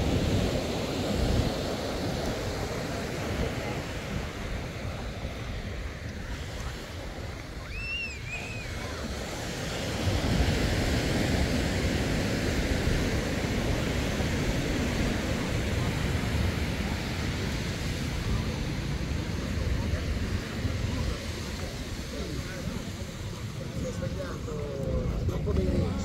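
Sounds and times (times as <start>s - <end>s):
surf washing onto beach: 0.0s - 26.0s
wind on microphone: 0.0s - 26.0s.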